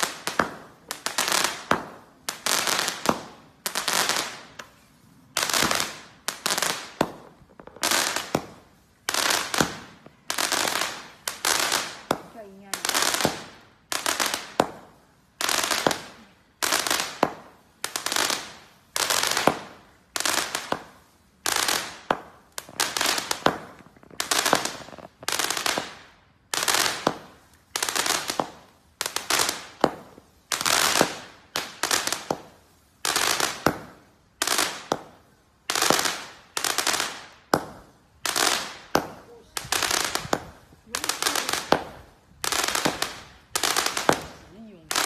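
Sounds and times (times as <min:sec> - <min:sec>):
firework shots with hiss: 0:00.0 - 0:45.0.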